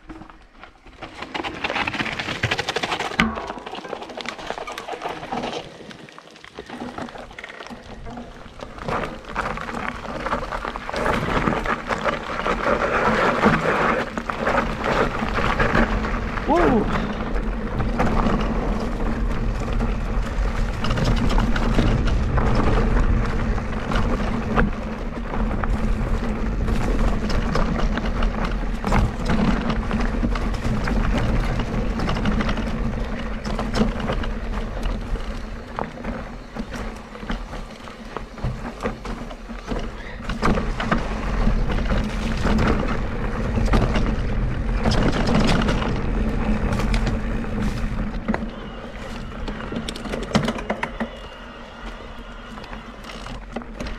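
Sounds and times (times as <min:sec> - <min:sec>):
bike knocks and rattles: 0:00.0 - 0:05.8, 0:06.6 - 0:51.4
bike tyres rolling on dirt and rock: 0:00.0 - 0:53.9
wind rumble on microphone: 0:07.8 - 0:53.9.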